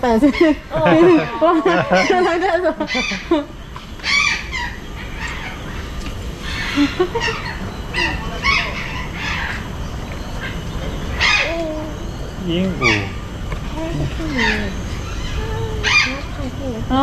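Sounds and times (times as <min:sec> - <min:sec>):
low background hum: 0:00.0 - 0:17.0
parrots squawking: 0:00.2 - 0:16.8.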